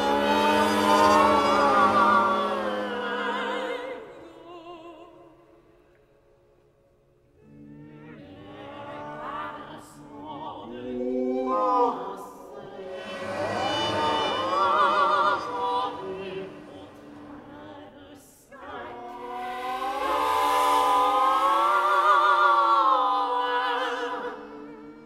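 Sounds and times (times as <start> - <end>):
countertenor singing opera: 0.0 - 5.6, 7.4 - 25.0.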